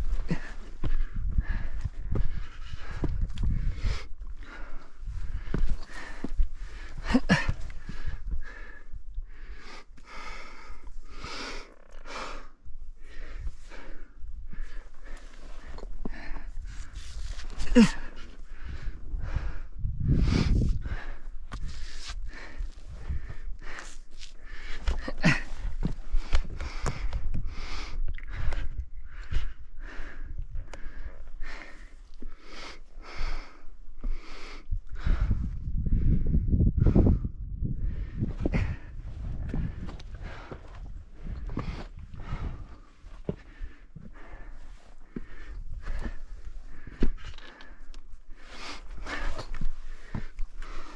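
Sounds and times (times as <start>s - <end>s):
person breathing hard: 0.0s - 50.9s.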